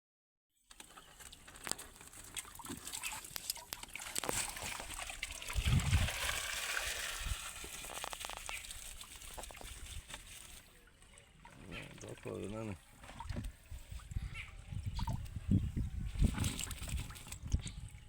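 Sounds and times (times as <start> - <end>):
water sloshing and trickling: 0.7 - 18.0
water splashes: 0.8 - 18.0.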